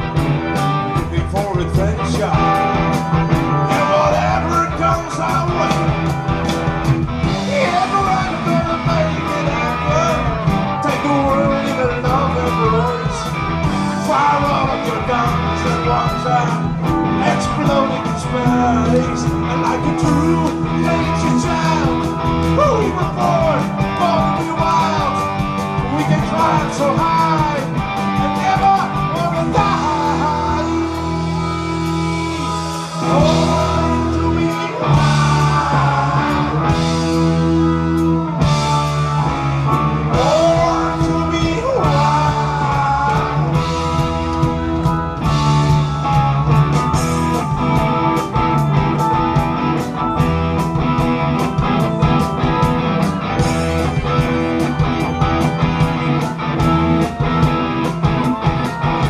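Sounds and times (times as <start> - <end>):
electric guitar bending notes: 0.0 - 59.0
live rock band playing: 0.0 - 59.0.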